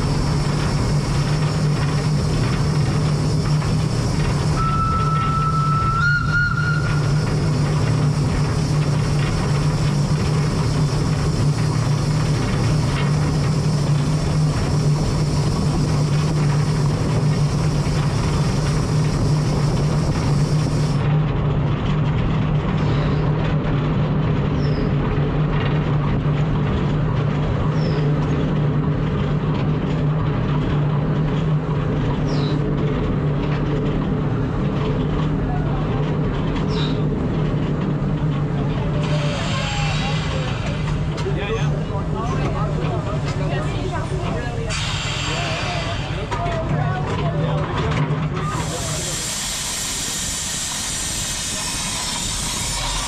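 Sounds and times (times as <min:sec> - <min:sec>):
steam tram running: 0:00.0 - 0:53.0.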